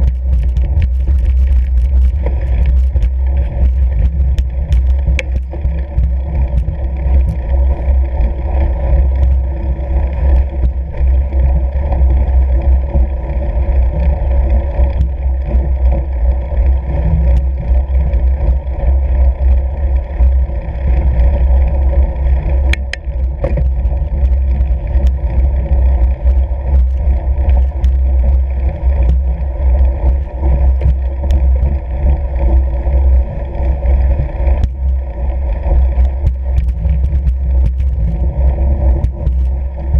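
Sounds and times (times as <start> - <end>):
bike tyres rumbling over snow: 0.0 - 39.9
wind on microphone: 0.0 - 39.9.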